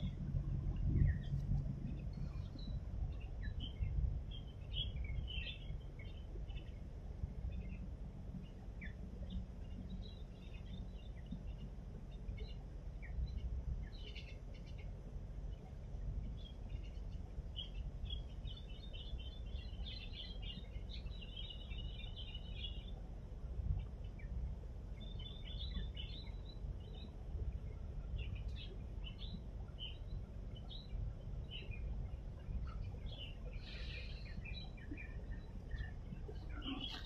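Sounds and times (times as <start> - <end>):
small birds chirping: 0.0 - 37.0
steady low rumble: 0.0 - 37.0.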